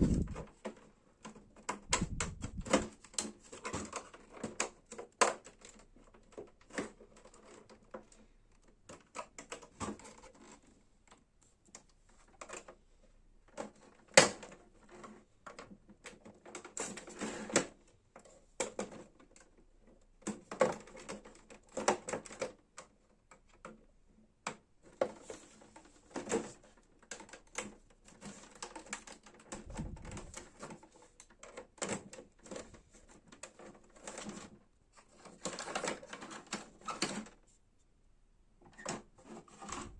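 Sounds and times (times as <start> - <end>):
plastic printer parts clicking: 0.1 - 12.8, 13.5 - 37.4, 38.6 - 39.9.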